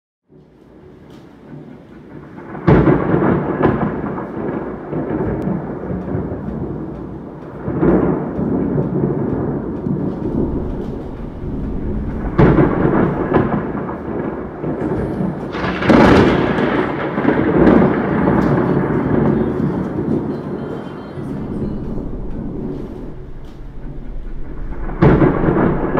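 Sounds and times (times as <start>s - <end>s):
thunder cracking and rumbling: 0.4s - 25.9s
rain falling: 0.6s - 25.9s.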